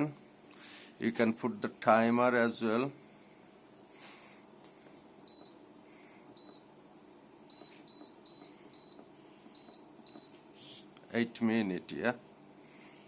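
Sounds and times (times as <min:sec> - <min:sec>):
faint fan hum: 0:00.0 - 0:13.0.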